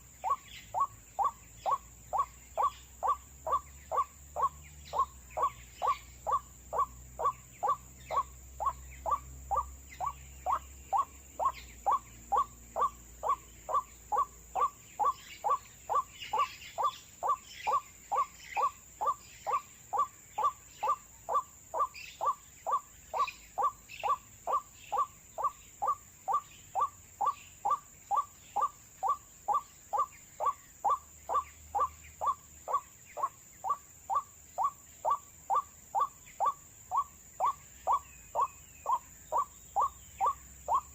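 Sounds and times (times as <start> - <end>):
waterhen call: 0.0 - 40.9.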